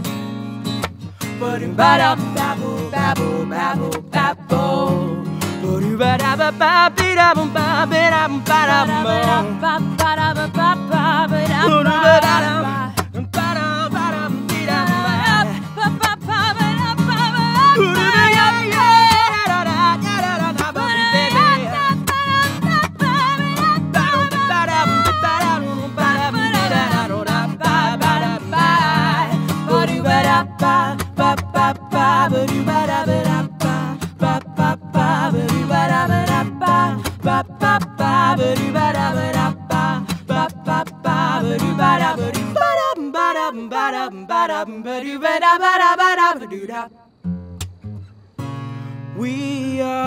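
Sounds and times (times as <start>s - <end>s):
acoustic guitar: 0.0s - 50.0s
woman singing with vibrato: 1.4s - 5.2s, 6.6s - 13.0s, 14.6s - 46.9s.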